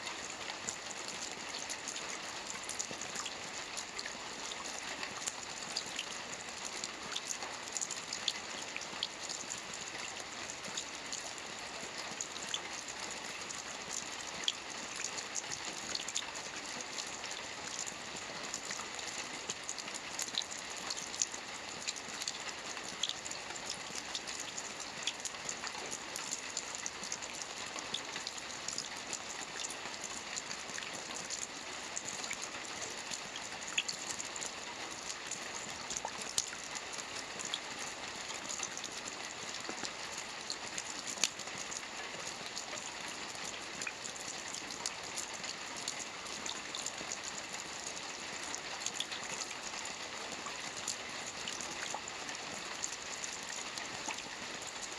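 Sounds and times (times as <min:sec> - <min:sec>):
rain hissing on lake: 0:00.0 - 0:54.9.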